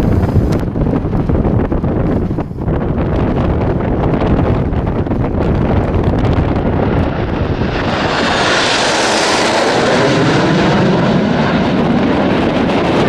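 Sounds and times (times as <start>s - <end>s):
jets flying over: 0.0s - 13.0s
wind rumble on microphone: 0.0s - 13.0s.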